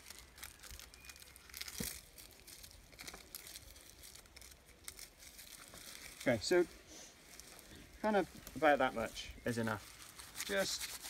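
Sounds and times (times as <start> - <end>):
cotton wool rustling: 0.0 - 11.0.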